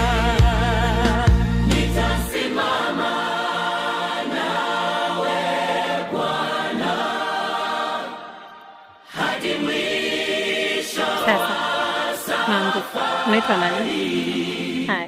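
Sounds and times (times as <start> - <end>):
choir singing gospel music: 0.0 - 15.0.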